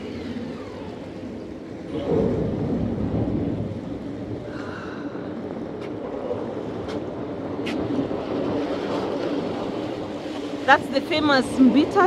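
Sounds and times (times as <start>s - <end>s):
ferry engine drone: 0.0s - 12.0s
water rushing along hull: 0.0s - 12.0s
wind buffeting microphone: 0.0s - 12.0s.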